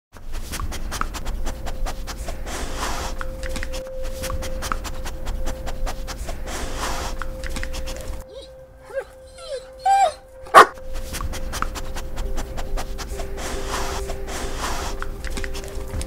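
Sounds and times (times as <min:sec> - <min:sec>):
dog panting: 0:00.3 - 0:16.0
faint steady tone: 0:02.2 - 0:16.0.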